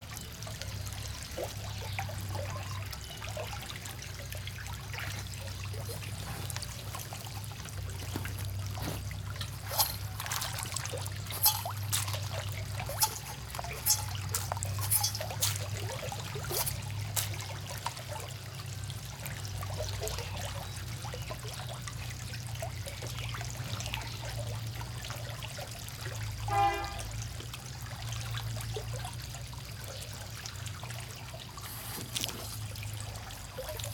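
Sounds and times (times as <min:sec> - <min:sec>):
sharp clicks and splashes: 0:00.0 - 0:33.9
water trickling into pond: 0:00.0 - 0:33.9.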